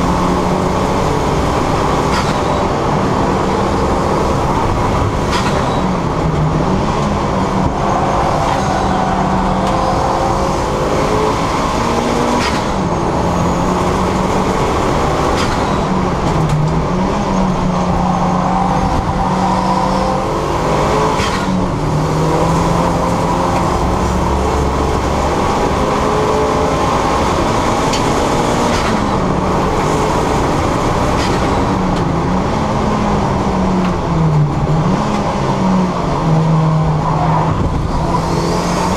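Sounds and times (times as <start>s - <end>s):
car engine revving hard: 0.0s - 38.9s.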